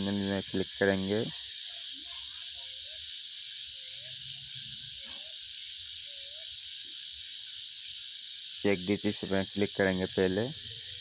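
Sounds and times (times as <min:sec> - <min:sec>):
high-pitched droning hiss: 0:00.0 - 0:11.0.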